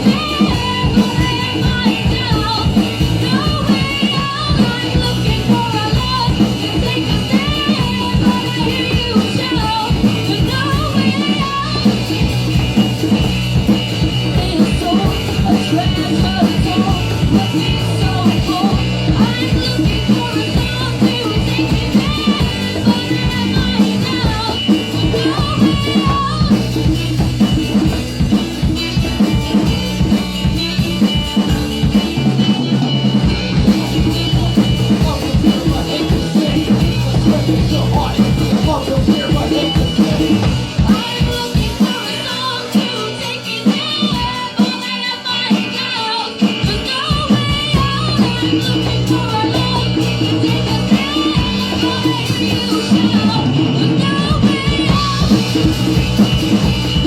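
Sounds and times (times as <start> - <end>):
live rock band playing: 0.0 - 57.0
melodic lead guitar line: 0.0 - 57.0.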